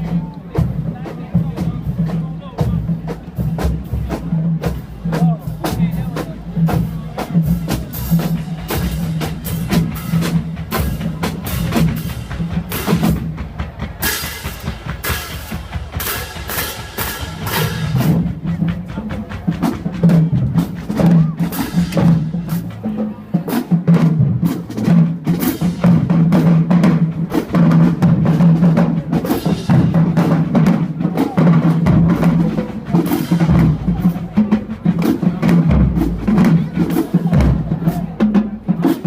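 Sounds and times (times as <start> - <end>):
snare drumline playing: 0.0 - 39.0.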